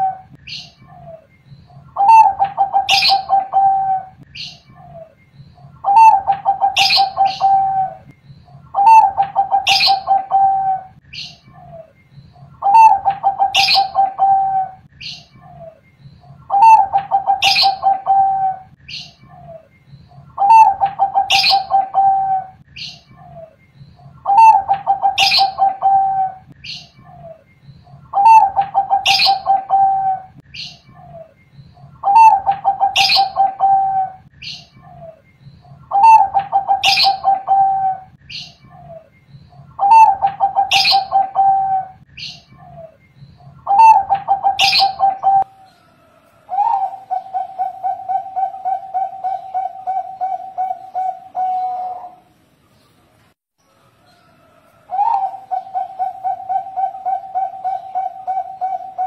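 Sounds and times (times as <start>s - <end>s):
dove cooing: 0.0s - 52.3s, 54.1s - 59.0s
faint high bird chirps: 0.0s - 59.0s.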